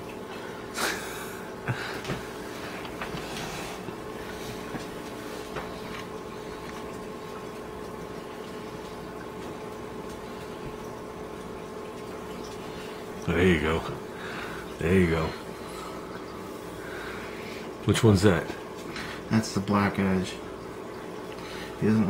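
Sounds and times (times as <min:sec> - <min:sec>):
aquarium equipment hum: 0:00.0 - 0:22.0
water sounds: 0:00.0 - 0:22.0.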